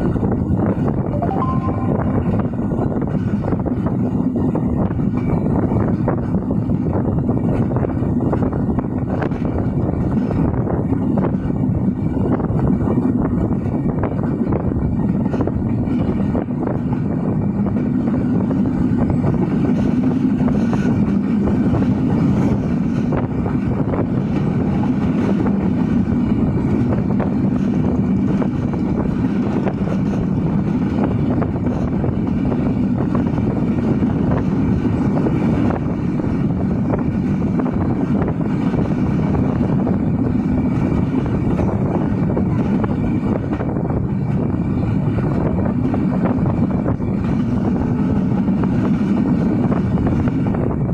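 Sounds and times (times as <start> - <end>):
train wheels on rails: 0.0 - 50.9.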